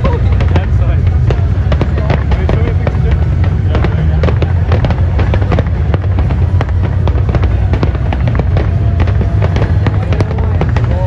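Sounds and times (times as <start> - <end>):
fireworks crackling: 0.0 - 11.0
low rumble: 0.0 - 11.0.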